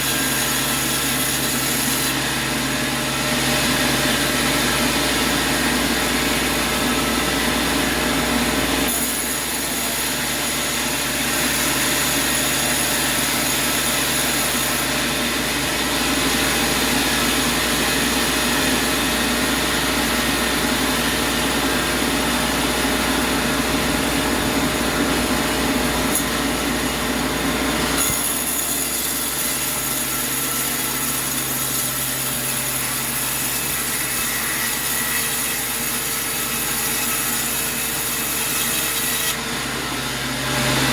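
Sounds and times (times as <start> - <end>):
saw whine: 0.0 - 40.9
sawmill machinery din: 0.0 - 40.9.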